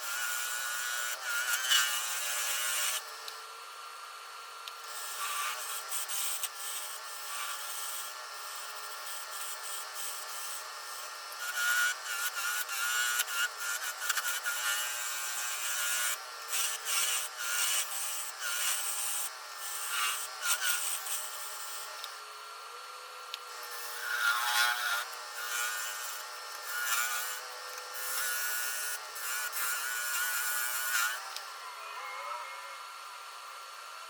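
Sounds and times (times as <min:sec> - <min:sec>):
woodworking machine whine: 0:00.0 - 0:34.0.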